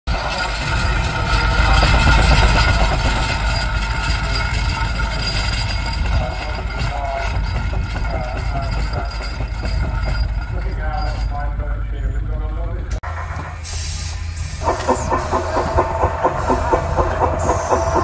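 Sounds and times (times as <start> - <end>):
steam traction engine rumbling: 0.1 - 18.0.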